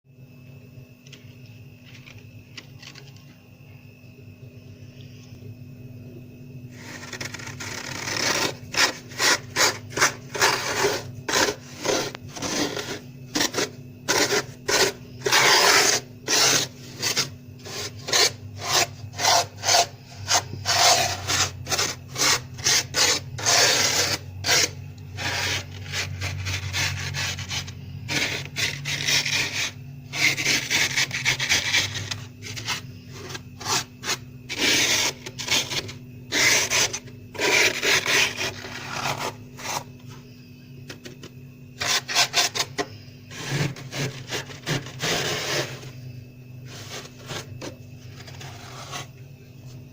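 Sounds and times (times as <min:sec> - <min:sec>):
plastic card scraping frost: 0:06.7 - 0:40.1, 0:41.8 - 0:45.9, 0:46.6 - 0:49.1.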